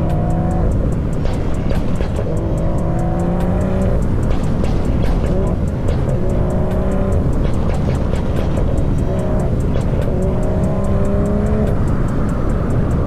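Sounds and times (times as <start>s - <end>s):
car engine accelerating: 0.0s - 13.0s
road and wind rumble: 0.0s - 13.0s.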